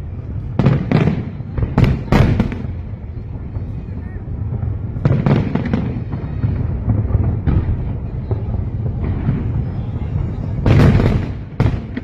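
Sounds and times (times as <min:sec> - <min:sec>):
fireworks bangs: 0:00.0 - 0:12.0
fireworks booming: 0:00.0 - 0:12.0.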